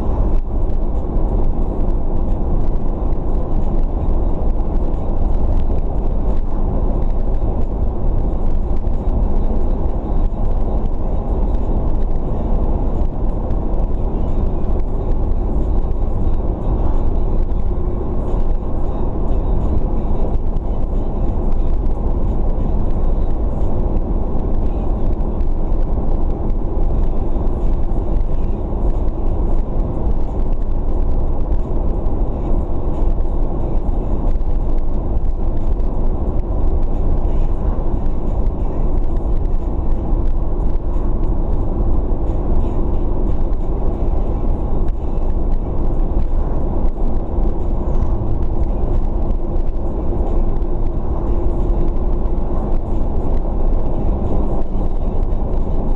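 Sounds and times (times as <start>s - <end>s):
car engine and tyre rumble: 0.0s - 55.9s.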